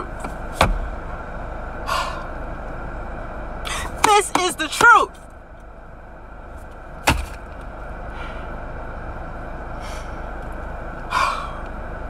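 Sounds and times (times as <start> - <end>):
car engine hum from inside: 0.0 - 12.0.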